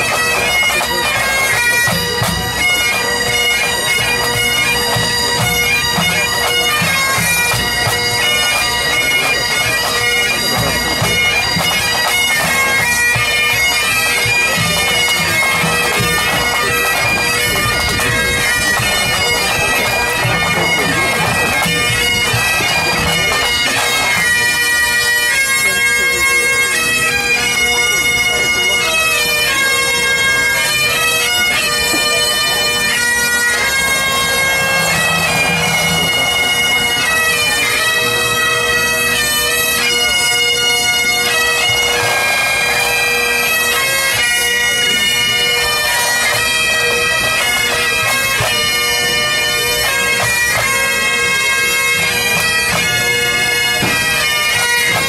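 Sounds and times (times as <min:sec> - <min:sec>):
bagpipes playing melody: 0:00.0 - 0:55.0.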